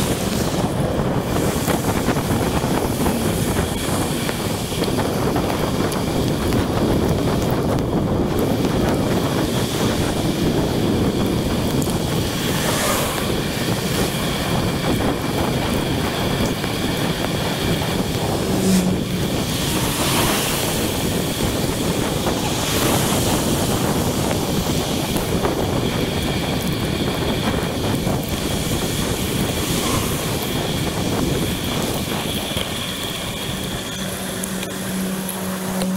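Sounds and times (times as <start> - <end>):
road and traffic noise: 0.0 - 35.9
wind buffeting microphone: 0.0 - 35.9.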